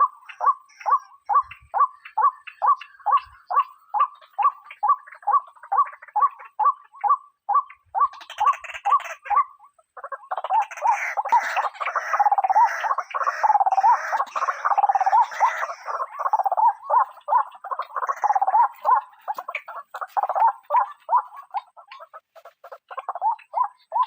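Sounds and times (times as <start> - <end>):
waterhen croaking calls: 0.0 - 24.0.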